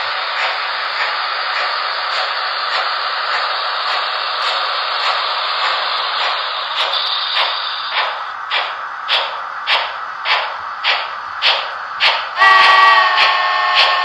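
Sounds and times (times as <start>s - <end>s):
model locomotive hissing: 0.0s - 14.0s
faint regular track clicks: 0.2s - 12.4s.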